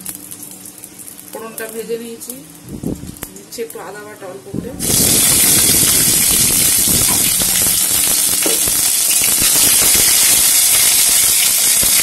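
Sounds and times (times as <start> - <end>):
sizzle with crackles and pops: 0.0 - 12.0
spices frying in hot oil: 0.0 - 12.0.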